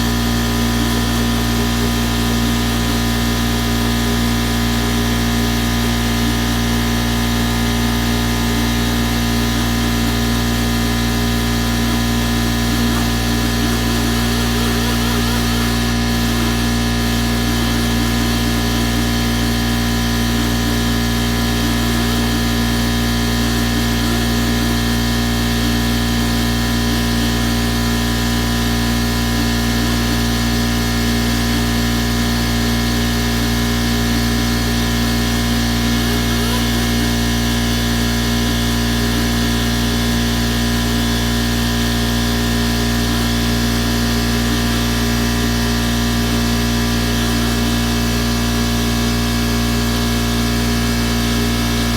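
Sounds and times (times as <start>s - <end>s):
air-powered grinder running: 0.0s - 51.9s.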